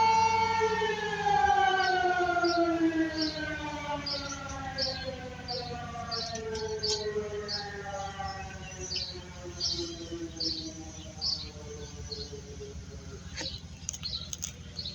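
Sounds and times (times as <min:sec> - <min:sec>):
warning siren winding down: 0:00.0 - 0:14.4.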